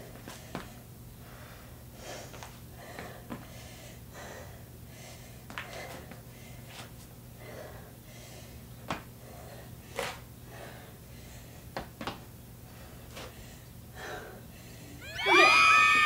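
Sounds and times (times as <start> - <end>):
person breathing hard: 0.2 - 11.8, 12.6 - 15.1.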